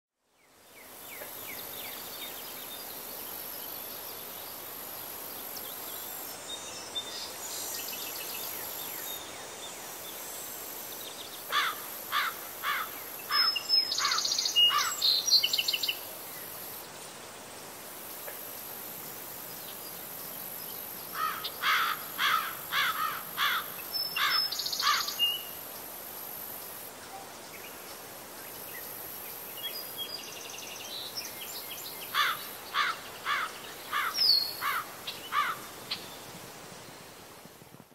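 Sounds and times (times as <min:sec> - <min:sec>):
outdoor hiss: 0:00.3 - 0:37.9
songbird singing: 0:00.4 - 0:17.0, 0:18.6 - 0:37.2.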